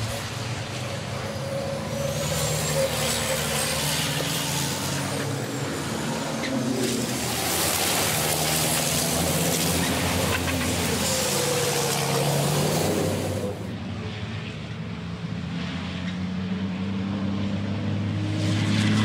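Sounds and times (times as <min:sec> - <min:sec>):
racing trucks passing: 0:00.0 - 0:19.0.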